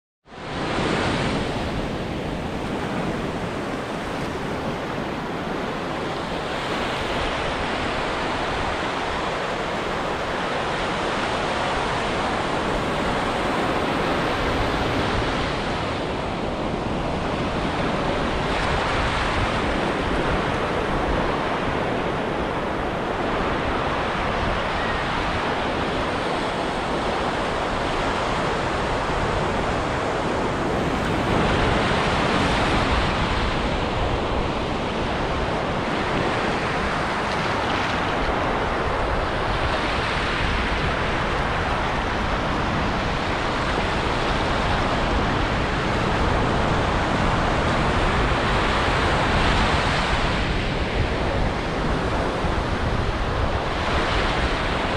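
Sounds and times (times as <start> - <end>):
ocean waves breaking on beach: 0.3 - 54.9.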